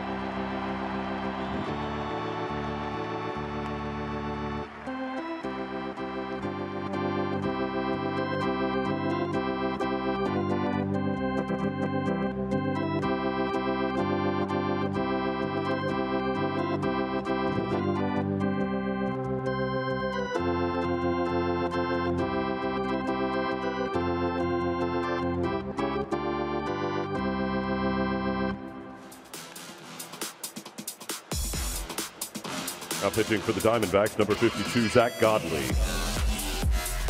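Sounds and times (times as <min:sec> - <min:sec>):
organ playing a tune: 0:00.0 - 0:29.6, 0:32.8 - 0:37.0.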